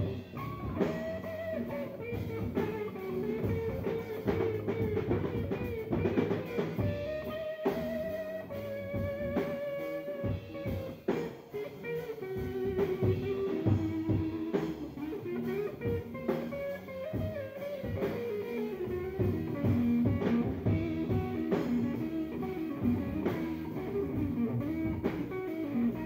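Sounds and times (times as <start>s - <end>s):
bass guitar: 0.0s - 26.0s
drum kit: 0.0s - 26.0s
electric guitar bending notes: 0.0s - 26.0s.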